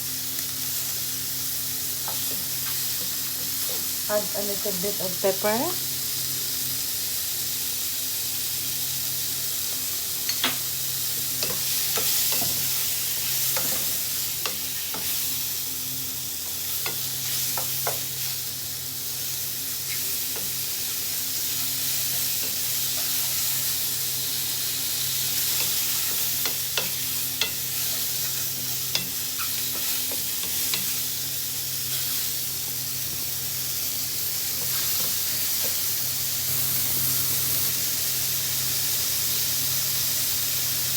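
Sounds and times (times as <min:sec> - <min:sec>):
mushrooms sizzling in a pan: 0:00.0 - 0:40.9.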